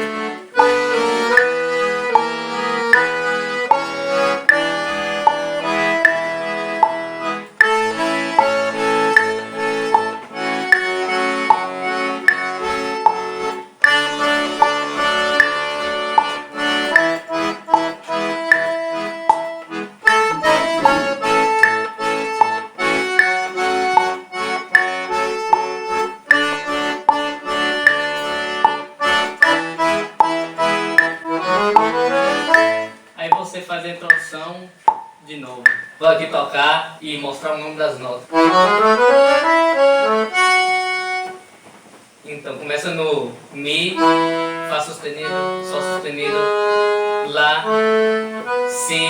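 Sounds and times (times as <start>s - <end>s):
solo accordion tune: 0.0s - 33.3s, 37.9s - 41.7s, 43.6s - 49.0s.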